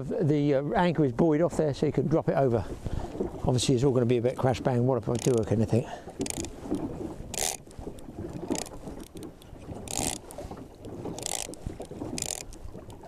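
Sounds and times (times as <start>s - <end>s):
waves splashing against boat hull: 0.0s - 13.0s
wind rumble on microphone: 0.0s - 13.0s.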